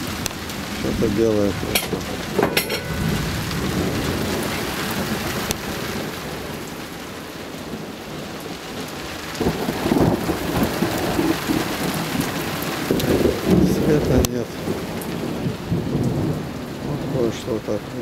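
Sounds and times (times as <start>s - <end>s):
rain on wooden porch: 0.0s - 18.0s
thunder rumbling: 0.0s - 18.0s.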